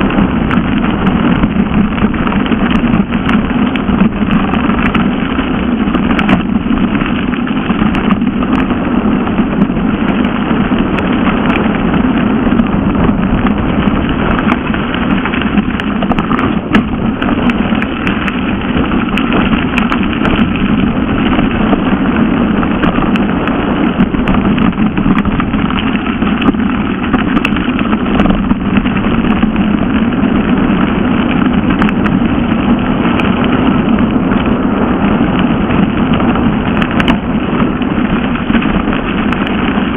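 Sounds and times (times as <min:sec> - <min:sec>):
stones clicking and bike rattling: 0:00.0 - 0:39.9
tyres on loose gravel: 0:00.0 - 0:39.9
wind on microphone: 0:00.0 - 0:39.9.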